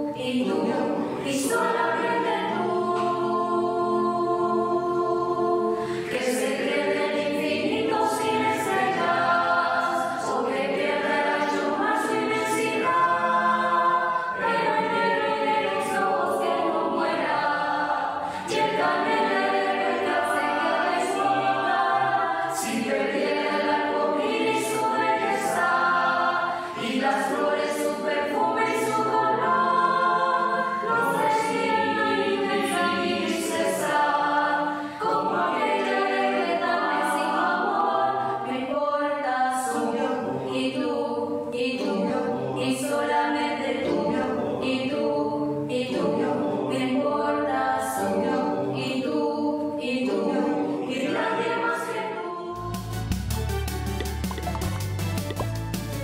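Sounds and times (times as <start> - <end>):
mixed choir singing a cappella: 0.0 - 53.1, 54.2 - 55.5.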